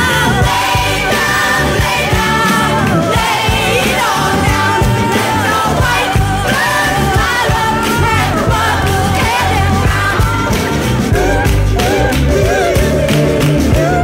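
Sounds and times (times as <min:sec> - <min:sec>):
folk-rock song with singing: 0:00.0 - 0:14.0
gospel choir singing: 0:00.0 - 0:14.0.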